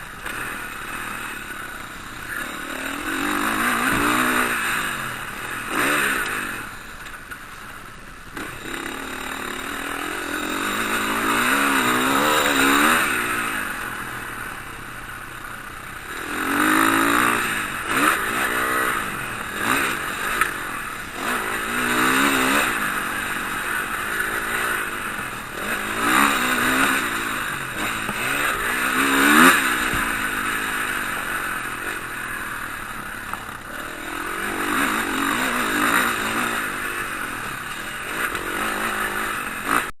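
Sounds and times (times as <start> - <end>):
motocross bike engines revving: 0.0 - 40.0.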